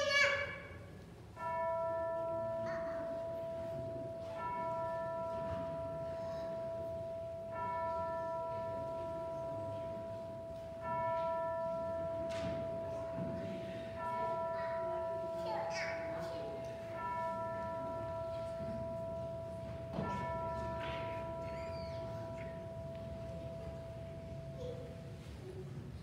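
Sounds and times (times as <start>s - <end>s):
bell tolling: 1.4s - 25.2s.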